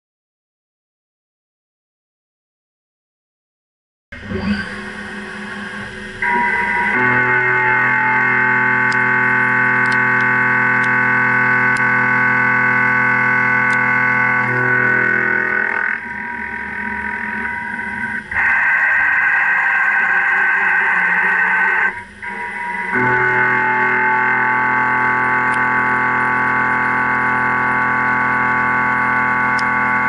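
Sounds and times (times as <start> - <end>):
face mill cutting steel whine: 4.2 - 30.0.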